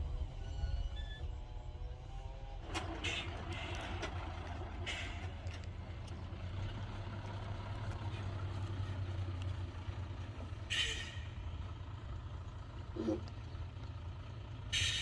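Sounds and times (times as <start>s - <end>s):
heavy diesel engine humming: 0.0s - 15.0s.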